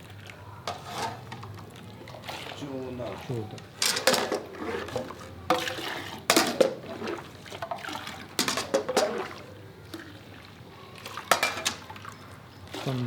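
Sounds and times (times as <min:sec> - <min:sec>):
milk pouring into jug: 0:00.0 - 0:13.0
milk sloshing: 0:00.0 - 0:13.0.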